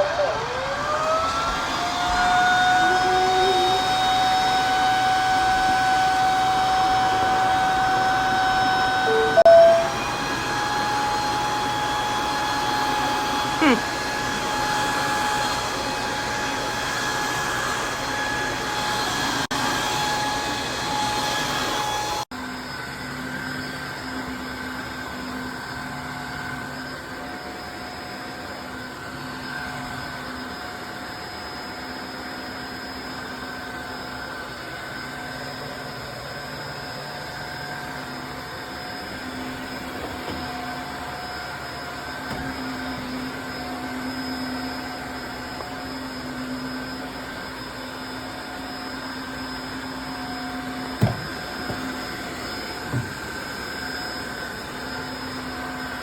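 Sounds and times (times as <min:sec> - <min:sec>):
vacuum motor hum and whine: 0:00.0 - 0:56.0.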